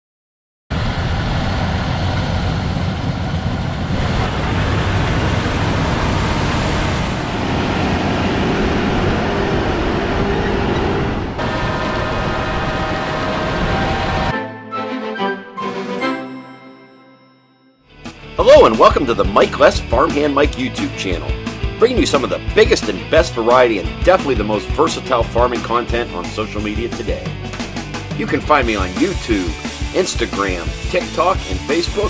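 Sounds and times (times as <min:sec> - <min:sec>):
diesel machinery running: 0:00.7 - 0:15.5, 0:18.0 - 0:32.0.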